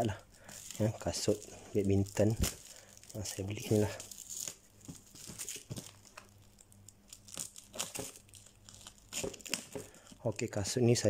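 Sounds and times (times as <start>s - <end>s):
plastic and bubble wrap crinkling: 0.0s - 11.0s.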